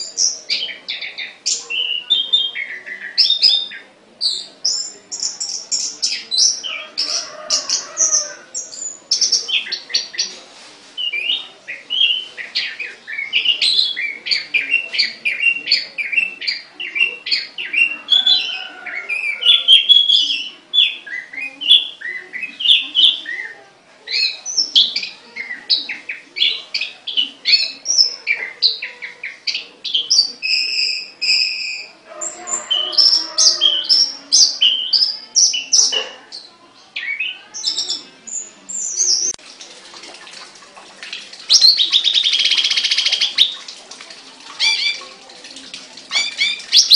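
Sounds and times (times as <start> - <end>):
songbird singing: 0.0 - 10.4, 11.0 - 39.4, 41.1 - 43.8, 44.6 - 45.2, 46.1 - 46.9.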